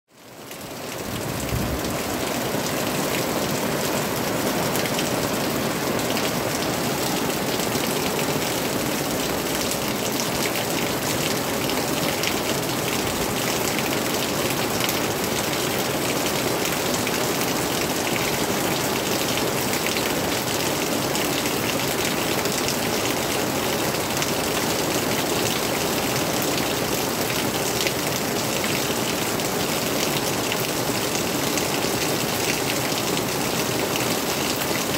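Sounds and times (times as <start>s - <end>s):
rain on leaves and tarpaulin: 0.1s - 34.9s.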